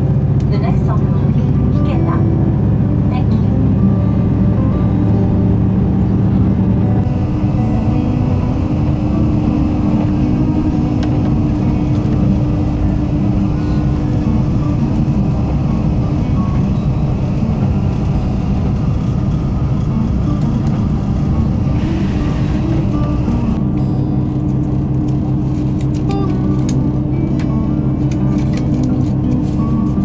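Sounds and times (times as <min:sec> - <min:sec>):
constant low hum: 0:00.0 - 0:30.0
train wheels rumbling on rails: 0:00.0 - 0:30.0.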